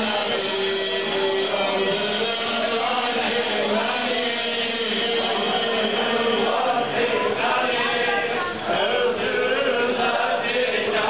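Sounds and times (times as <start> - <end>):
crowd of men chanting: 0.0 - 11.0.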